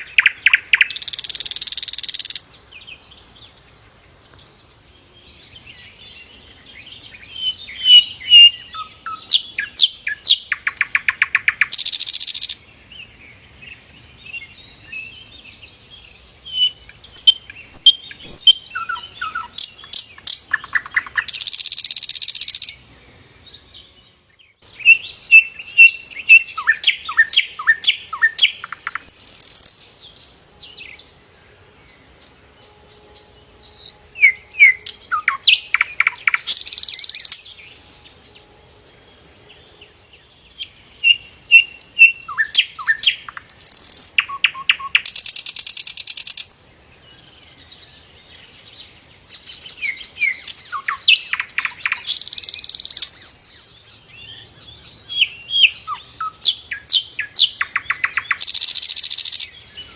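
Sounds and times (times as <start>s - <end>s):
flycatcher singing: 0.0s - 3.6s, 4.6s - 12.7s, 14.4s - 22.9s, 23.6s - 31.2s, 32.6s - 59.9s.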